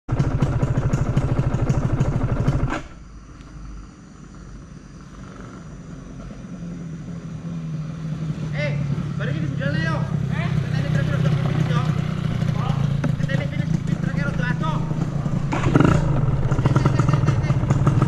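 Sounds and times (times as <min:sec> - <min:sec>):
low engine rumble: 0:00.1 - 0:18.0
motorcycle engine pulsing: 0:00.1 - 0:18.0.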